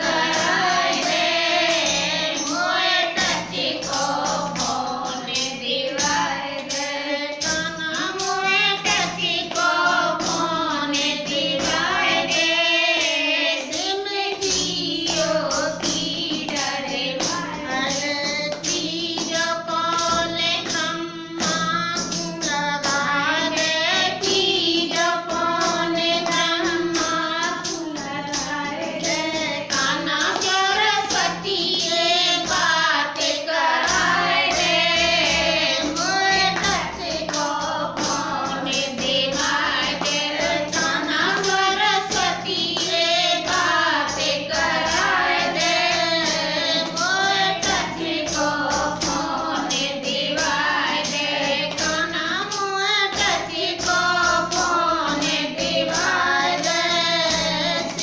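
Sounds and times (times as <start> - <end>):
tambourine beat: 0.0 - 58.0
women singing together: 0.0 - 58.0.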